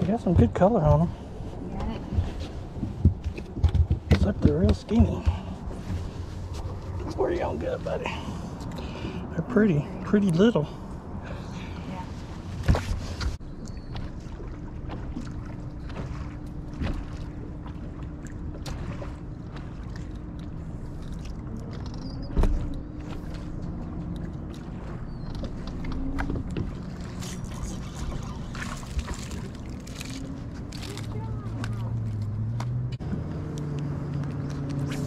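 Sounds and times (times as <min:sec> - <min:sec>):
water noise: 0:00.0 - 0:35.0
wind: 0:00.0 - 0:35.0.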